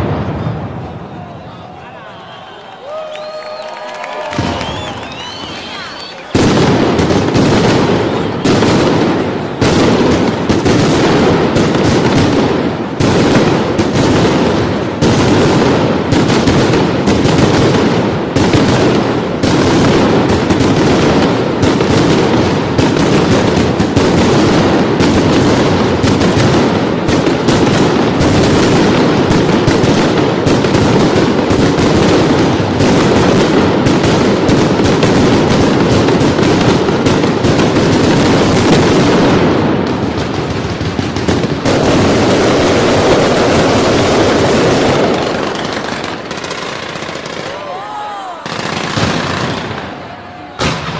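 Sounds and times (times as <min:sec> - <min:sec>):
fireworks and firecrackers barrage: 0:00.0 - 0:50.9.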